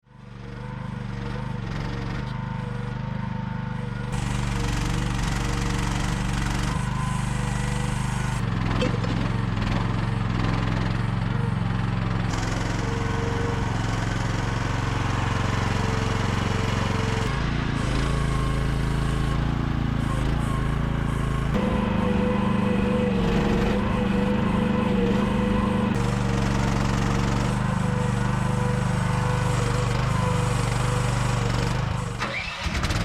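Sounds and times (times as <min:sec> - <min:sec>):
small gasoline engine running: 0:00.0 - 0:33.0.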